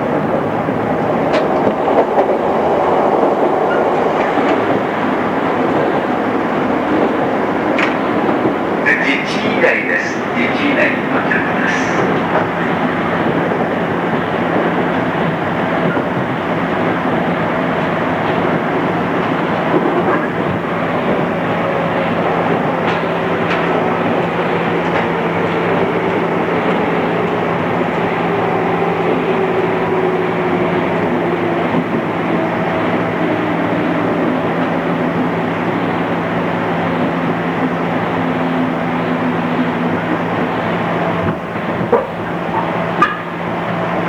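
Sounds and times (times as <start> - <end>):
rail and wheel noise: 0.0 - 44.0.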